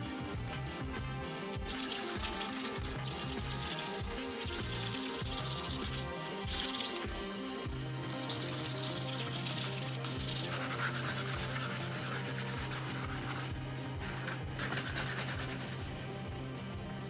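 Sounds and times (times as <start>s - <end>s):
background music: 0.0s - 17.0s
sanding rasping hiss: 0.6s - 16.0s.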